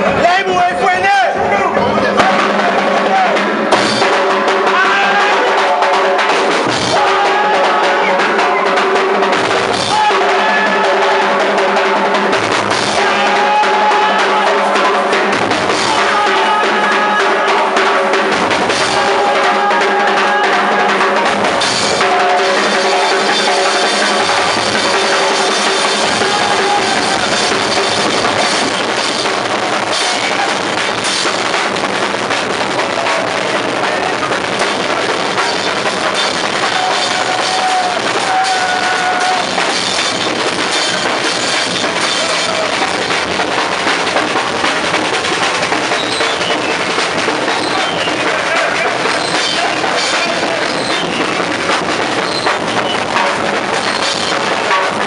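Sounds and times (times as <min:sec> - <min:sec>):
drums beaten with sticks: 0:00.0 - 0:55.0.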